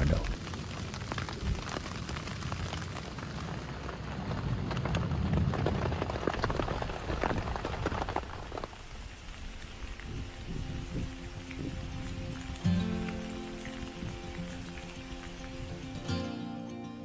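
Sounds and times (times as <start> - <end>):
rain drops ticking on a surface: 0.0 - 16.4
low rain rumble: 0.0 - 16.5.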